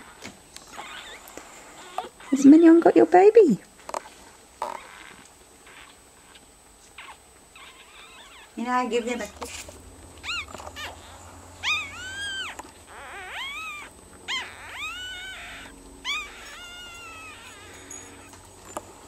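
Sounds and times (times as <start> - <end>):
puppies squealing: 0.0 - 3.1, 4.0 - 9.5, 10.2 - 19.0.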